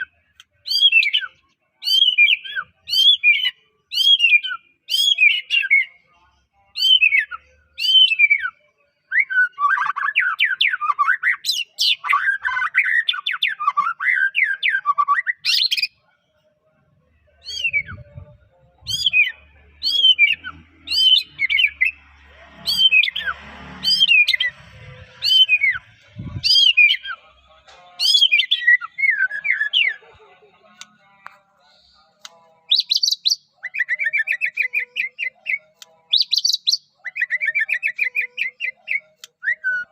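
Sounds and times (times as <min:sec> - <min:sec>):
bird singing chirps and whistles: 0:00.0 - 0:06.0, 0:06.7 - 0:16.0, 0:17.4 - 0:22.0, 0:22.6 - 0:27.3, 0:28.0 - 0:30.0, 0:32.7 - 0:39.9.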